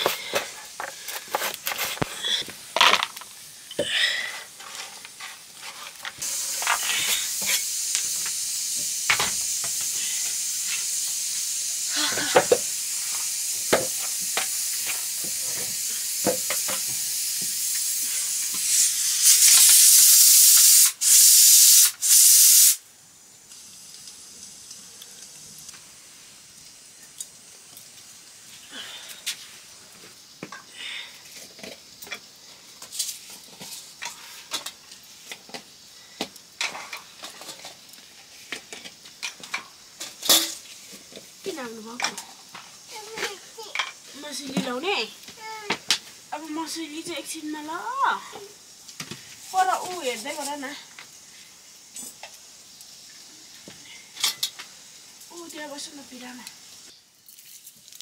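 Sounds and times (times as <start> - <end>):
food hissing in a pot: 0.0 - 58.0.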